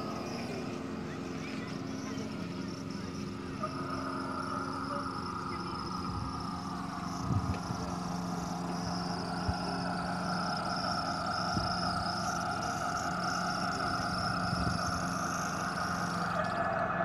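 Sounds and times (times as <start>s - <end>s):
model train motor whine: 0.0s - 17.0s
wheels clicking on track: 0.0s - 17.0s.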